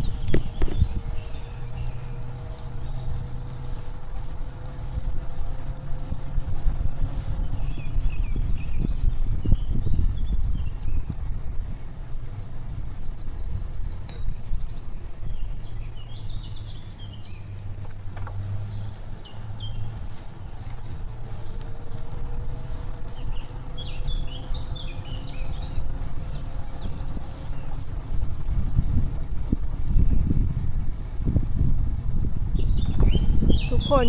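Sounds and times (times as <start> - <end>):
bicycle rumble on paved path: 0.0 - 34.0
songbirds chirping and trilling: 0.0 - 34.0.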